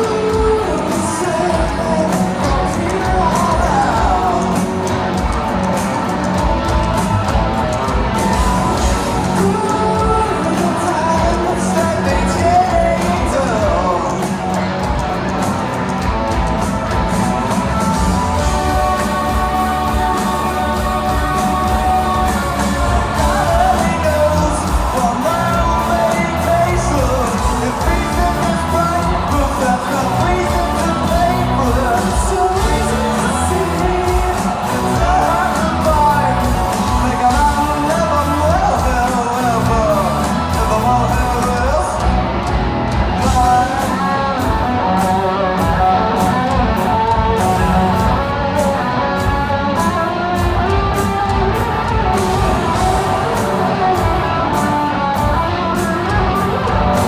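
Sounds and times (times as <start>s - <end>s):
live rock band with singer: 0.0s - 57.0s.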